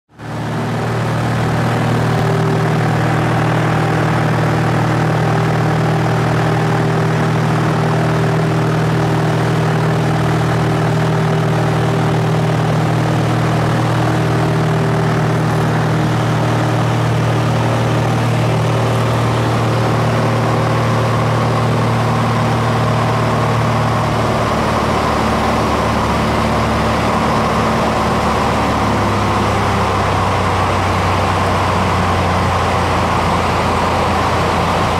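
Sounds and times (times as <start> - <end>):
propeller aircraft engine droning: 0.1 - 34.9.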